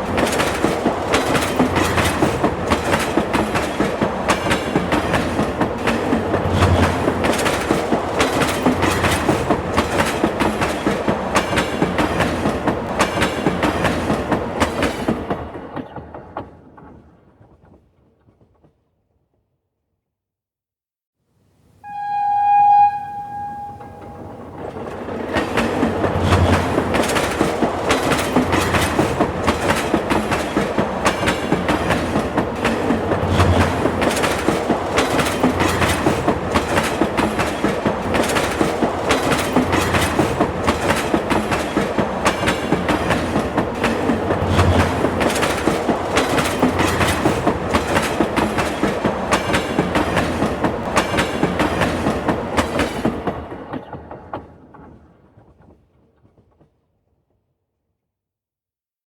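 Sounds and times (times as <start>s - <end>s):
train wheels clacking over rail joints: 0.0s - 17.8s, 24.6s - 56.8s.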